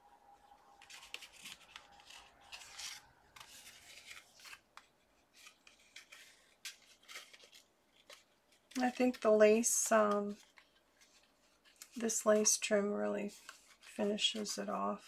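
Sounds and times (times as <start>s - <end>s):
lace and paper rustling: 0.4s - 15.0s.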